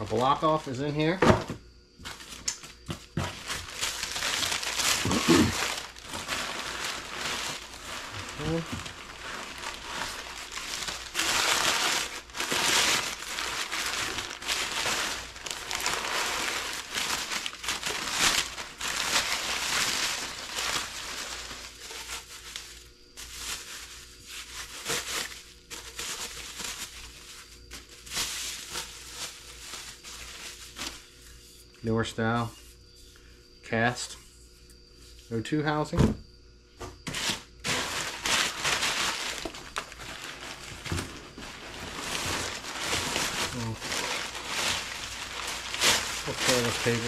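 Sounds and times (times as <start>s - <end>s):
bubble wrap rustling: 0.0s - 1.2s, 2.0s - 31.4s, 37.0s - 47.0s
packing paper crinkling: 0.0s - 1.2s, 2.0s - 31.0s, 37.1s - 47.0s.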